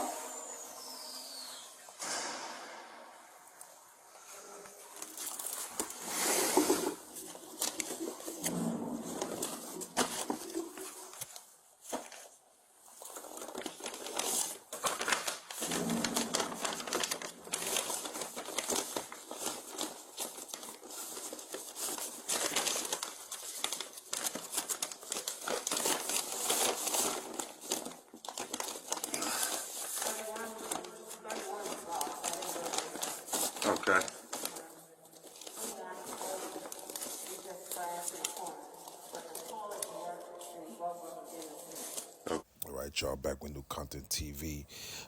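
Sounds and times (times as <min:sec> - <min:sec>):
paper crinkling and rustling: 0:05.0 - 0:42.1.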